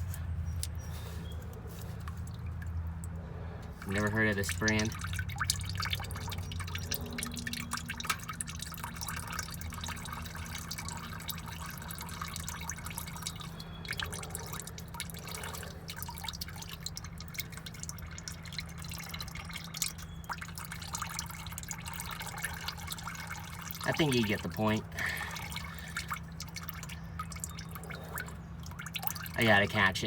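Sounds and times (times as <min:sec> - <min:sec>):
low steady hum: 0:00.0 - 0:30.0
oil dripping into a pan: 0:00.0 - 0:30.0.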